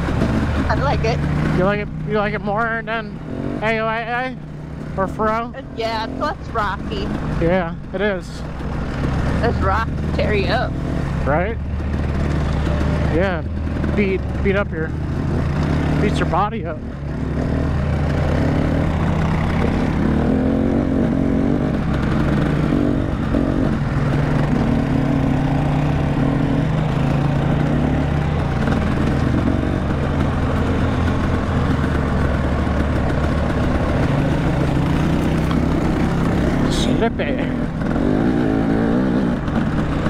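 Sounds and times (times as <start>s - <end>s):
off-road vehicle engine running: 0.0s - 40.0s.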